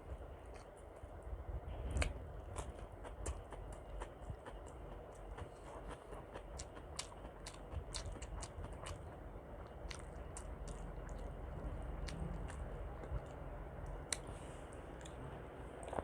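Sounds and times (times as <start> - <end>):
close chewing: 0.0 - 16.0.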